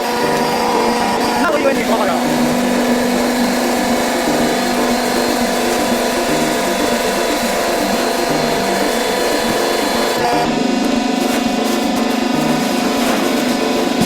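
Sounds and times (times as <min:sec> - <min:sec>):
motor and pump humming: 0:00.0 - 0:14.0.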